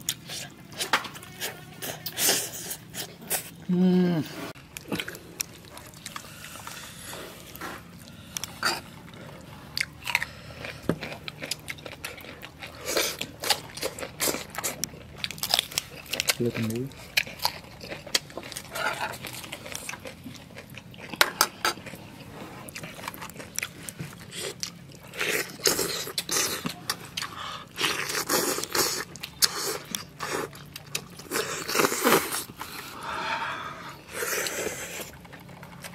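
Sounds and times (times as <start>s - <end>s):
person chewing and crunching food: 0.0s - 35.9s.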